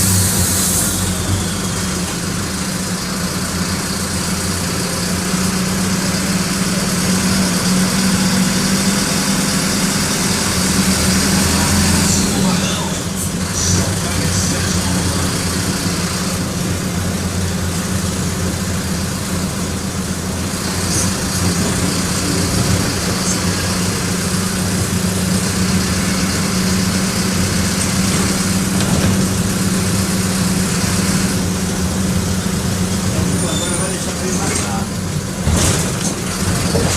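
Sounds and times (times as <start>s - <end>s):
bus diesel engine droning: 0.0s - 36.9s.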